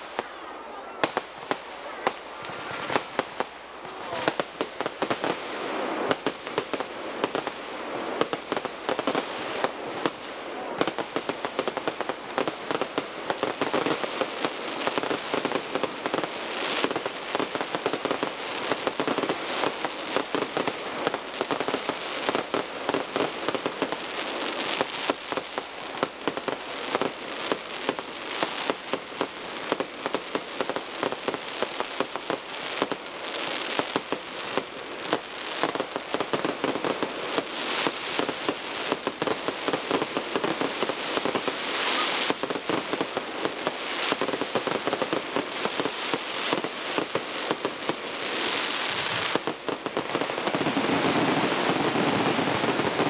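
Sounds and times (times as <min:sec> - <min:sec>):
rapid fireworks barrage: 0:00.0 - 0:53.0.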